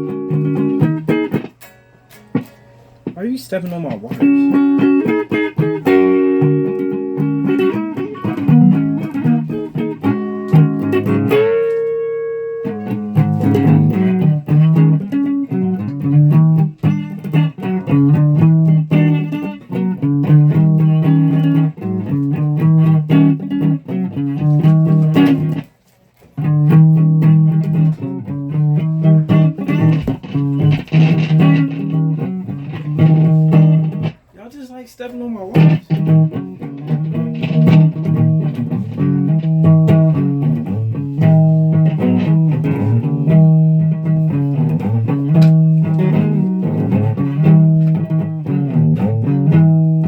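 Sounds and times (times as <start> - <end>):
electric guitar picked notes: 0.0 - 25.7, 26.4 - 34.3, 35.5 - 50.0.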